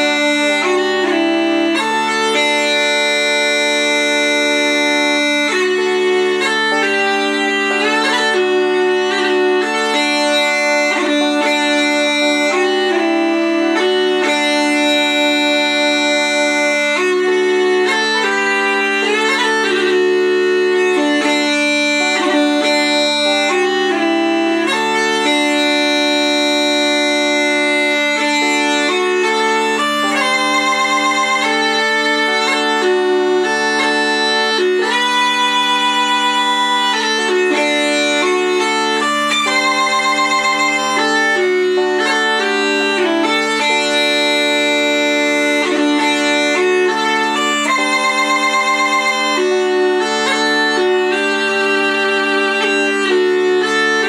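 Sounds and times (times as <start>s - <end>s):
bagpipe melody: 0.0s - 54.0s.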